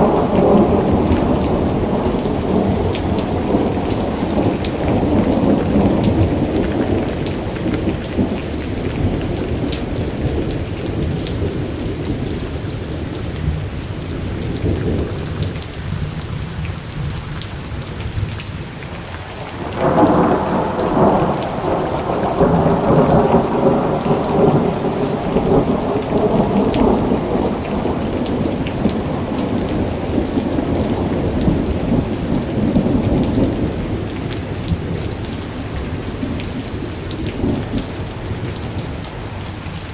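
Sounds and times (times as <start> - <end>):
rolling thunder: 0.0 - 16.0, 19.3 - 39.0
steady rain: 0.0 - 39.9.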